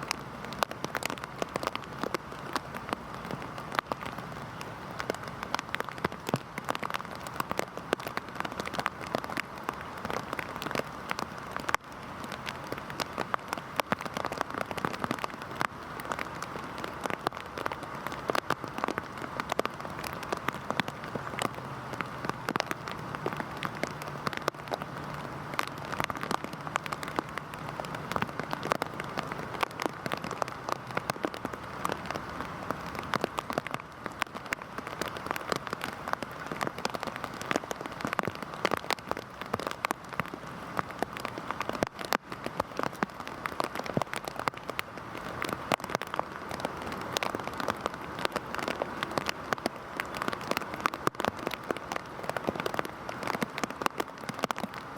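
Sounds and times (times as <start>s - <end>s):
heavy rain falling: 0.0s - 54.9s
raindrops hitting a surface: 0.0s - 54.9s.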